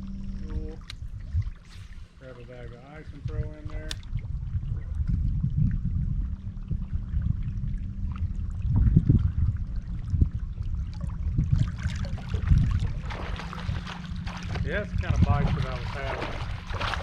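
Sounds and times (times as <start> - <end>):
faint steady hum: 0.0 - 17.0
water sounds: 0.0 - 17.0
wind rumble on microphone: 0.0 - 17.0.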